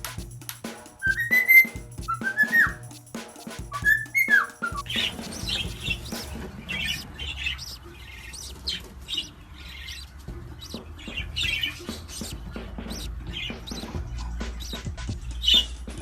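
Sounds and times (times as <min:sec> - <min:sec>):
parrot chirping: 0:01.0 - 0:02.8, 0:03.7 - 0:14.8.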